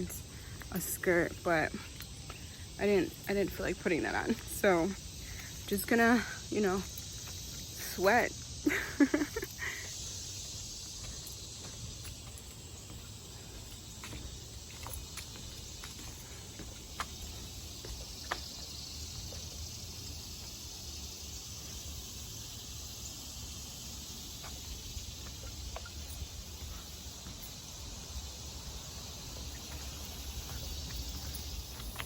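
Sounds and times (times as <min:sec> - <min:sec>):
high insect chorus: 0:00.0 - 0:32.0.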